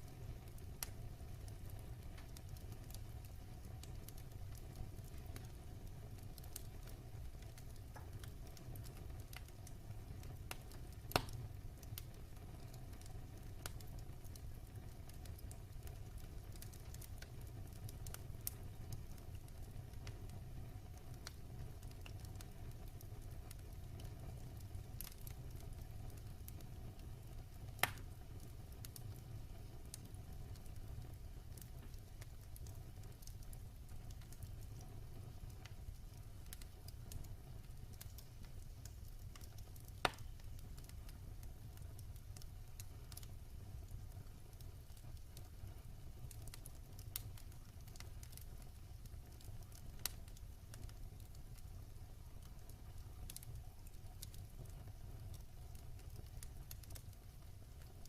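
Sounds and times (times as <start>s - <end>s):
wood fire crackling: 0.0s - 58.0s
sharp pops from burning logs: 0.1s - 58.0s.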